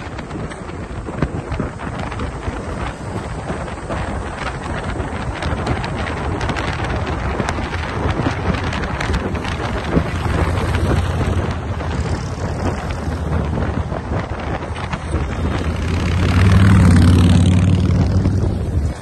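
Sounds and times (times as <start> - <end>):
motorcycles droning: 0.0 - 19.0
wind rushing over microphone: 0.0 - 19.0.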